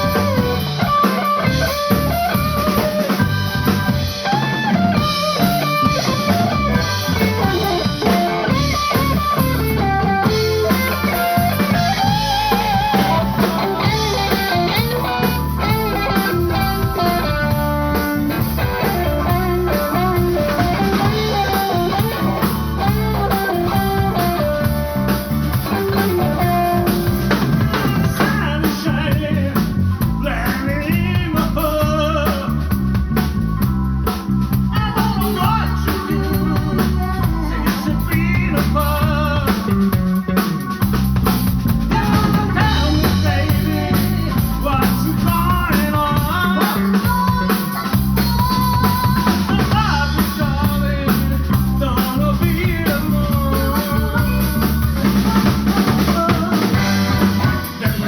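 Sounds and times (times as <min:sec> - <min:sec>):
blues band playing: 0:00.0 - 0:58.0
electric guitar bending notes: 0:00.0 - 0:58.0.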